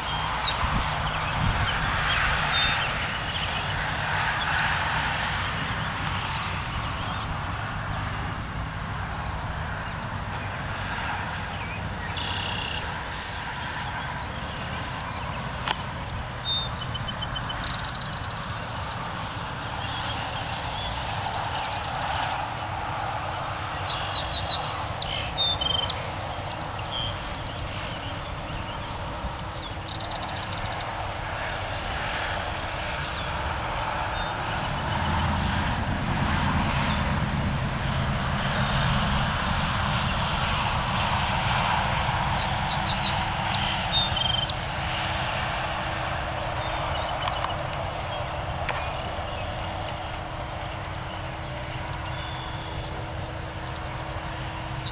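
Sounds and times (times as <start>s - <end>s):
small birds chirping and trilling: 0.0s - 8.2s, 8.8s - 22.2s, 23.5s - 35.3s, 42.3s - 45.5s, 46.5s - 54.9s
outdoor background hum: 0.0s - 54.9s.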